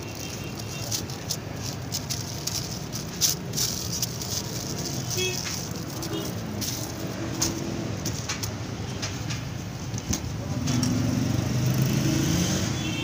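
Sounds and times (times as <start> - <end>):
paper crinkling and rustling: 0.0 - 10.8.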